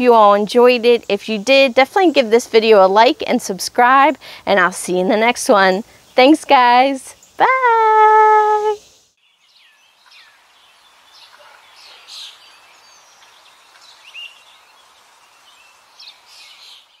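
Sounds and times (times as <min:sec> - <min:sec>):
birds chirping: 0:00.0 - 0:17.0
faint steady hiss: 0:00.0 - 0:17.0.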